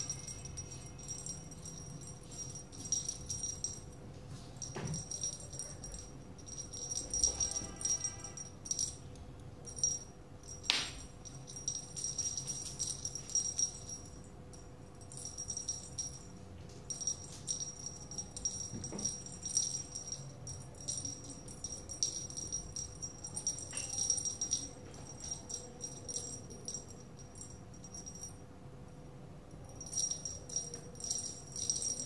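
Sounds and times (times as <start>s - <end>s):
small jingle bell jingling: 0.0s - 28.5s, 29.5s - 32.0s.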